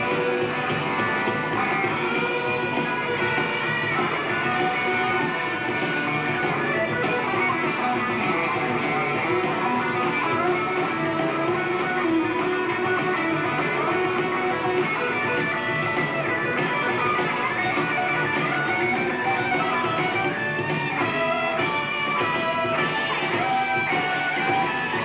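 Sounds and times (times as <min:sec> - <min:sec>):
bass and drums: 0:00.0 - 0:25.0
electric guitars: 0:00.0 - 0:25.0.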